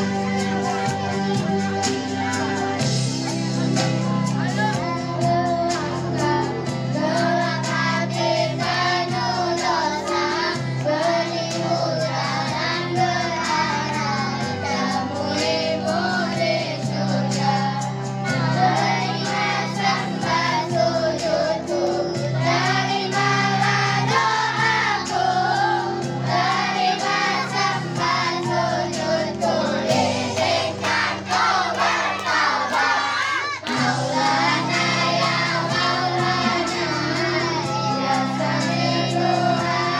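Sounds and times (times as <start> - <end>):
girls singing into microphones: 0.0 - 3.0, 3.7 - 39.9
musical accompaniment: 0.0 - 39.9.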